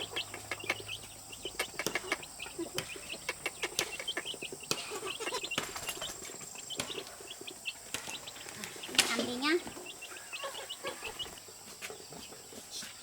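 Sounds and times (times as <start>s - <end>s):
poultry clucking: 0.0s - 12.9s
small birds chirping: 0.0s - 13.0s.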